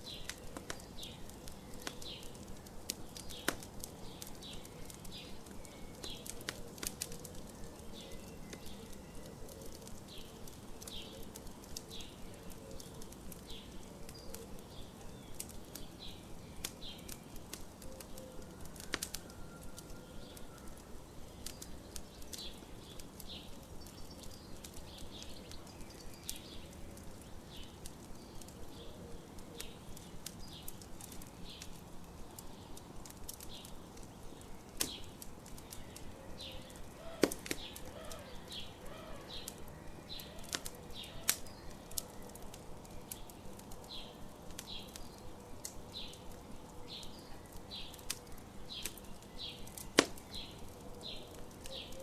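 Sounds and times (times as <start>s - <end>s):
campfire crackling and popping: 0.0s - 52.0s
small birds chirping: 0.0s - 52.0s.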